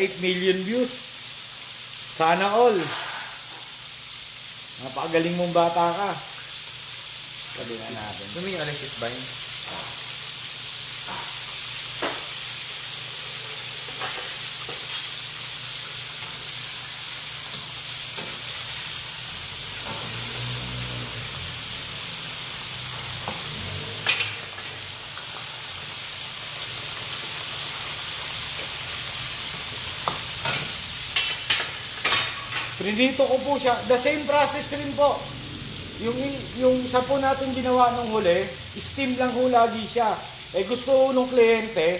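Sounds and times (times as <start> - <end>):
food sizzling in hot oil: 0.0 - 41.9.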